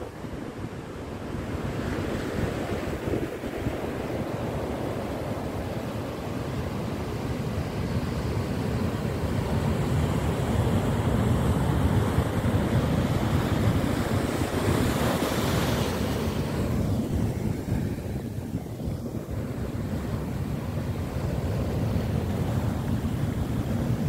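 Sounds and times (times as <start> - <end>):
ocean surf breaking on rocks: 0.6 - 24.0.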